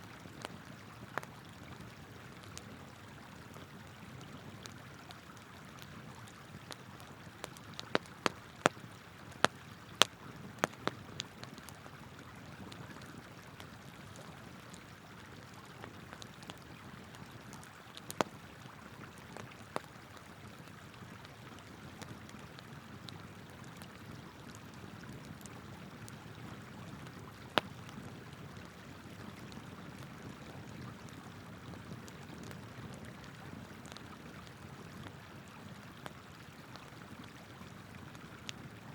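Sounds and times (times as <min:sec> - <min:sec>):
campfire crackling and popping: 0:00.0 - 0:38.9
flowing river: 0:00.0 - 0:38.9.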